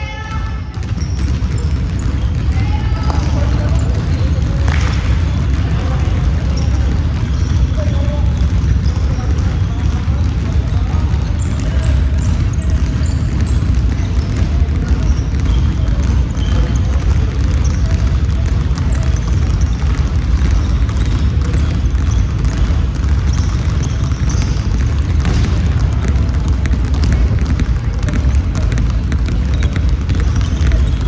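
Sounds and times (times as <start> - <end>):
players' voices: 0.0 - 31.0
basketball bouncing: 0.1 - 31.0
sneakers squeaking on court: 0.1 - 31.0.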